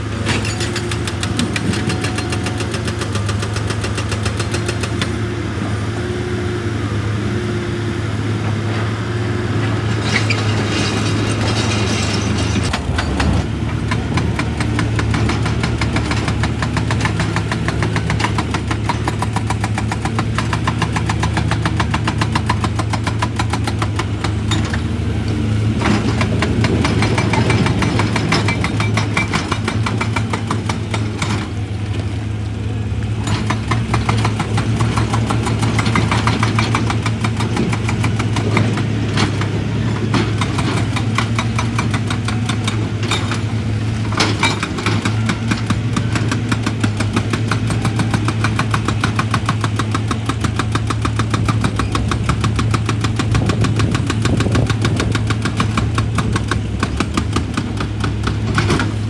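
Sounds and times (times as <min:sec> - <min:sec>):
heavy machine engine rattling: 0:00.0 - 0:59.0.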